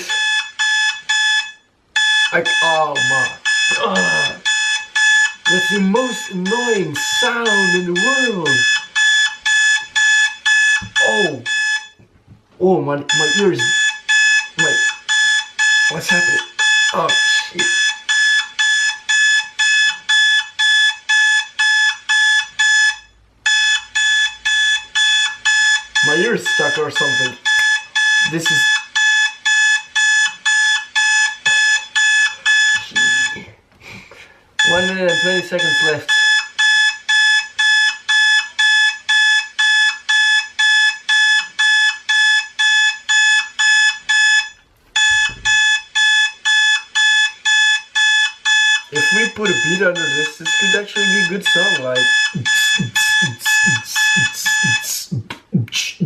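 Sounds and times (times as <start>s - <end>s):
alarm clock beeping: 0.0s - 12.0s, 13.0s - 33.5s, 34.6s - 55.1s.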